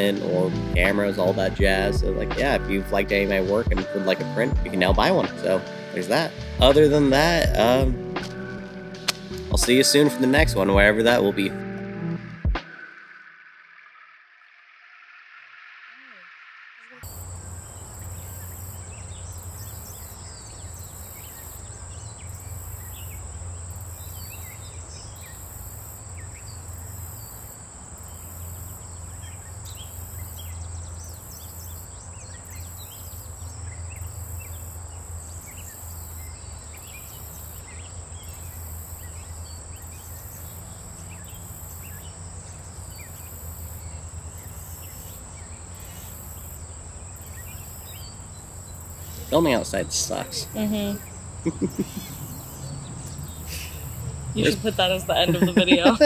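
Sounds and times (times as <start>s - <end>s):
insects trilling: 0.0s - 6.4s, 12.8s - 56.0s.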